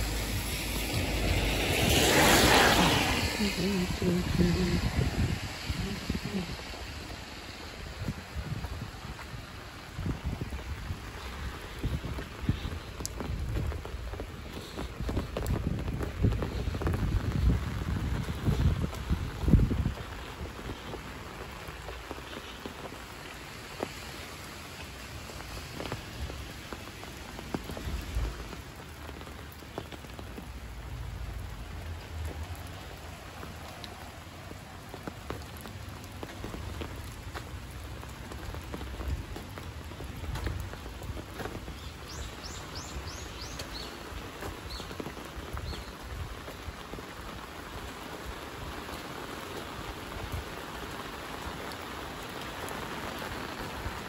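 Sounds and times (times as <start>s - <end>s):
light rain falling: 0.0s - 54.0s
raindrops ticking on surfaces: 0.0s - 54.0s.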